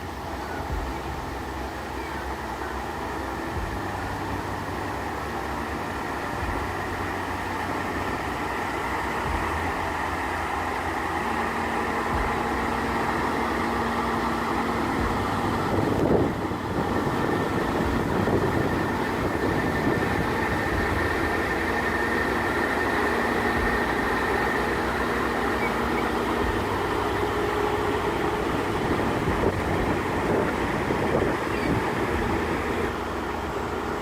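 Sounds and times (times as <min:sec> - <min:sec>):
heavy machinery running: 0:00.0 - 0:34.0.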